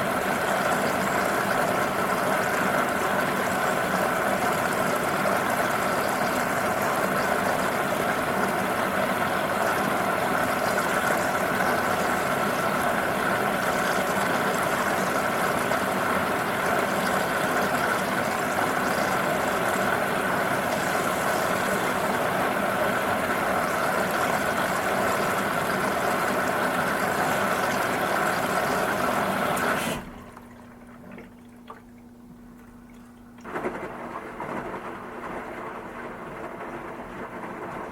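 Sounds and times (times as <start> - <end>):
washing machine running: 0.0 - 37.9.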